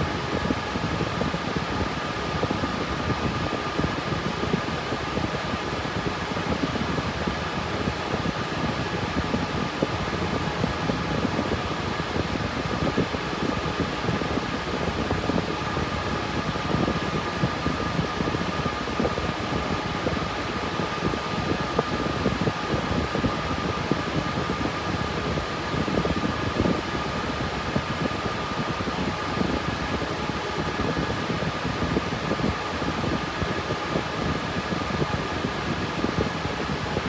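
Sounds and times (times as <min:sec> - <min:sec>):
cooling fans whooshing: 0:00.0 - 0:37.0.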